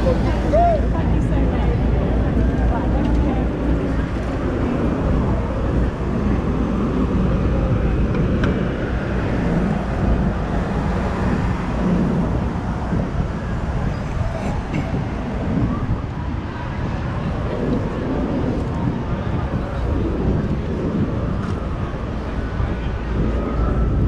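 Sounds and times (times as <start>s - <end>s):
traffic passing: 0.0s - 24.0s.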